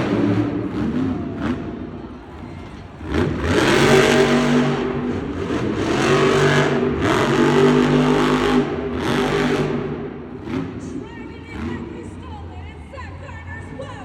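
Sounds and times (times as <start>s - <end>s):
truck engine revving hard: 0.0s - 2.2s, 2.9s - 12.3s.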